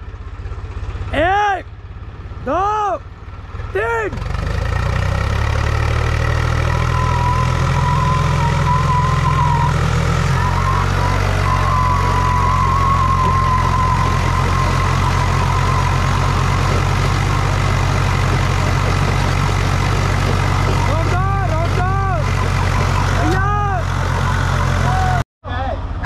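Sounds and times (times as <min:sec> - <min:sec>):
diesel engines under load: 0:00.0 - 0:26.0.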